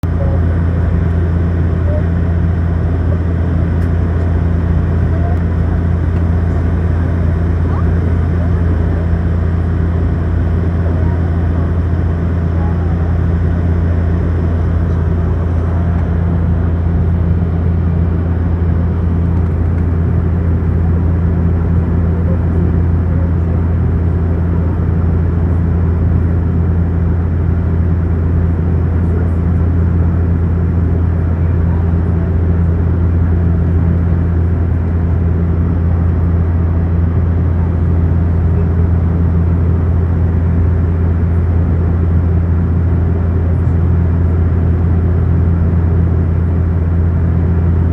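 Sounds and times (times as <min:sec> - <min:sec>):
vehicle engine drone: 0:00.0 - 0:47.9.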